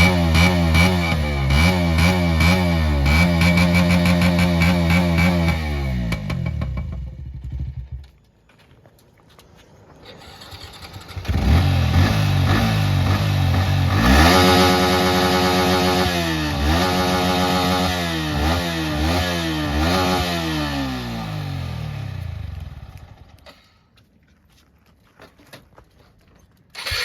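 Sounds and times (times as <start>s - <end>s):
motorcycle engine revving: 0.0s - 8.1s, 10.1s - 23.4s, 26.8s - 27.0s.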